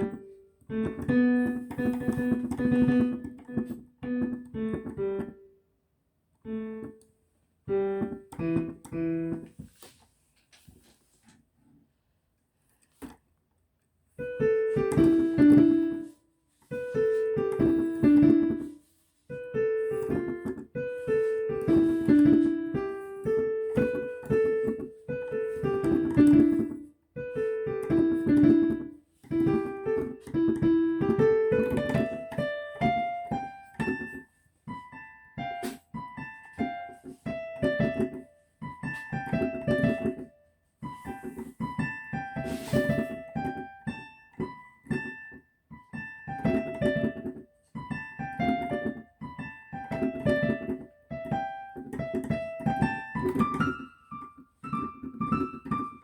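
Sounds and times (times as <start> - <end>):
solo piano phrase: 0.0 - 5.6, 7.7 - 9.8, 14.2 - 56.0.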